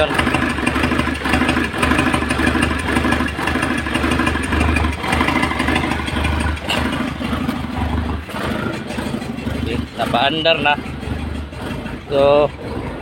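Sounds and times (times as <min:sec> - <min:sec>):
diesel engine idling roughly: 0:00.0 - 0:13.0.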